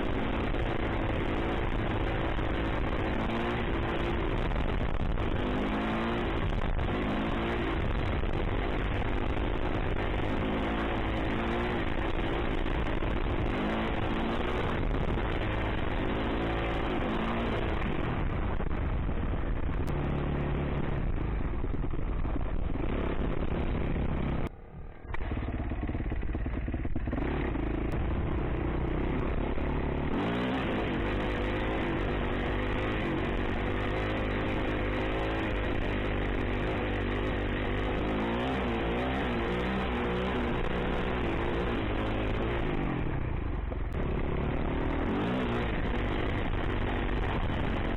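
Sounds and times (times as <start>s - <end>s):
dirt bike engine revving: 0.0s - 18.8s, 22.7s - 43.2s, 43.9s - 47.9s
road and wind noise: 0.0s - 47.9s.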